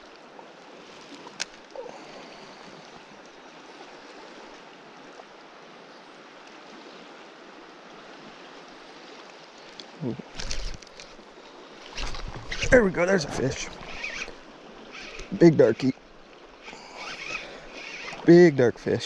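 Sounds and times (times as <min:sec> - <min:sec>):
flowing river water: 0:00.0 - 0:19.0.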